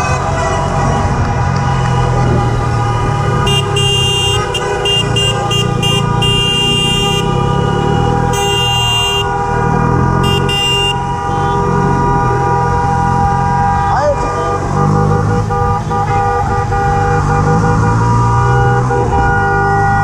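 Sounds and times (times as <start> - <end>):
motorcycle engine running: 0.0 - 17.2
car horns honking: 0.0 - 20.0.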